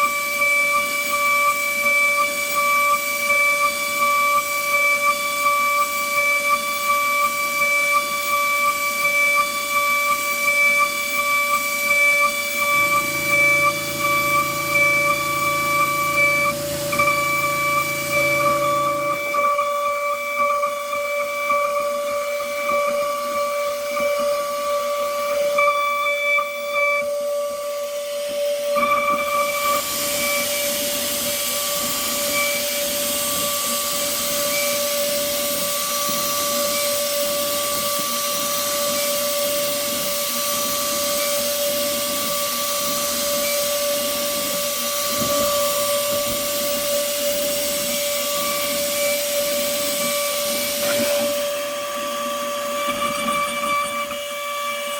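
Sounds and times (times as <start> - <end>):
machine spindle whine: 0.0 - 54.9.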